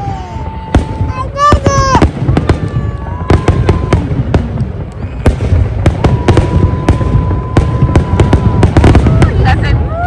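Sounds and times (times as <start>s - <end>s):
fireworks cracks and bangs: 0.0s - 10.0s
whistling firework: 0.0s - 10.0s.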